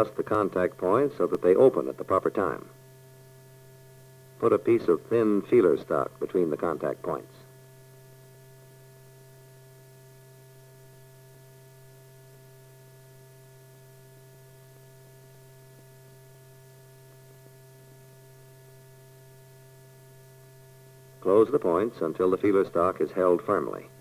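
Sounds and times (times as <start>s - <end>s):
faint high steady tones: 0.0s - 24.0s
steady low hum: 0.0s - 24.0s.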